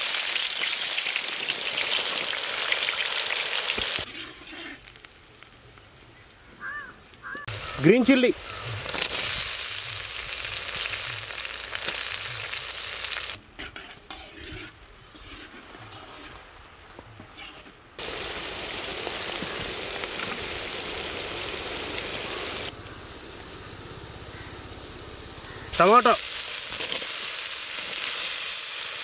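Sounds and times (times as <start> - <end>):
onions sizzling in hot oil: 0.0 - 29.0.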